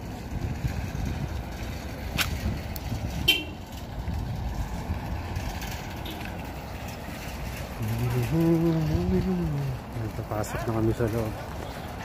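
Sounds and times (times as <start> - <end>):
traffic rumble: 0.0 - 12.0
wind: 0.0 - 12.0.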